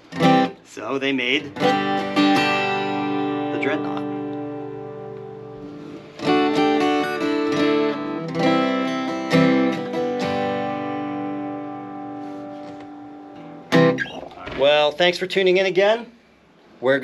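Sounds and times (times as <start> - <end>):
acoustic guitar strummed chords: 0.0 - 14.3.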